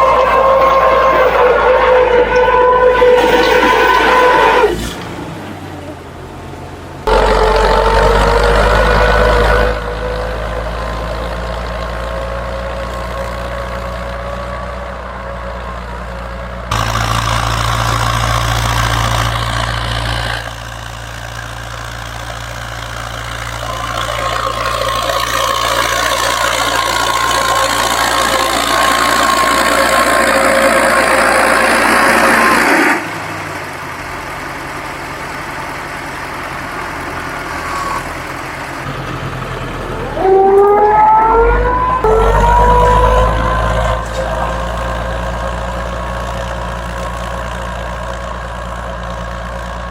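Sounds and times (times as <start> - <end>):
farm machine engine with whine: 0.0 - 49.9.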